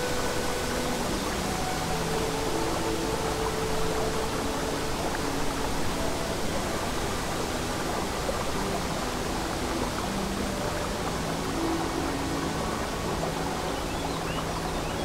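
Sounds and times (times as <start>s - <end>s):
babbling brook: 0.0s - 15.0s
soft held music notes: 0.0s - 15.0s.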